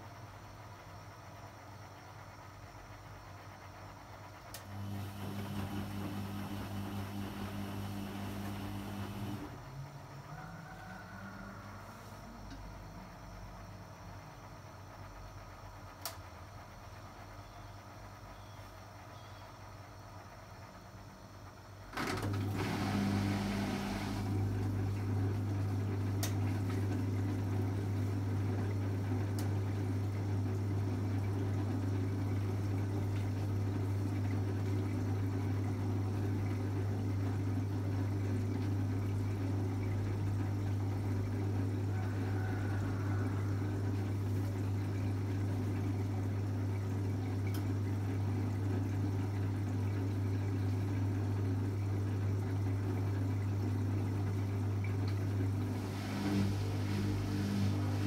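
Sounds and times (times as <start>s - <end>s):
washing machine drain pump humming: 0.0s - 58.0s.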